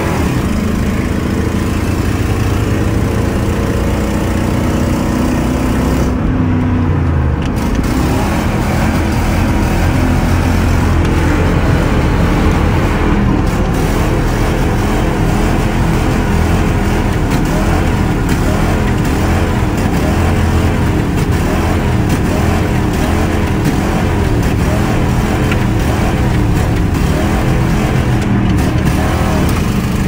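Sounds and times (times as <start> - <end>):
engine bouncing off rev limiter: 0.0 - 30.0.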